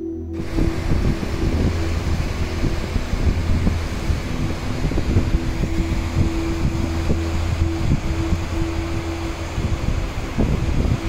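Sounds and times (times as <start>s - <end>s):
falling water: 0.4s - 11.0s
river rushing: 0.4s - 11.0s
wind buffeting microphone: 0.4s - 11.0s.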